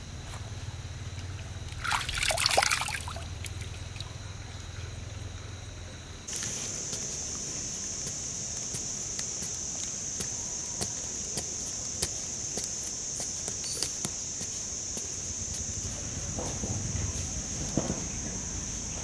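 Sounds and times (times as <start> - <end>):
insect chorus: 0.0 - 19.0.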